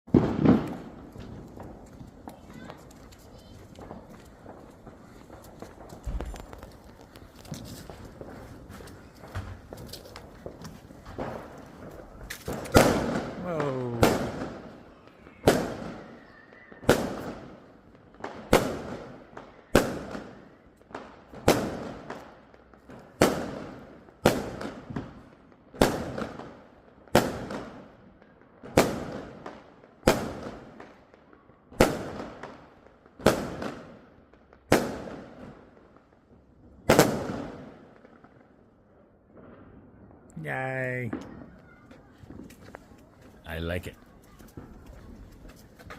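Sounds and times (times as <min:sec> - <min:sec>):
fireworks exploding: 0:00.1 - 0:38.7, 0:39.3 - 0:45.9.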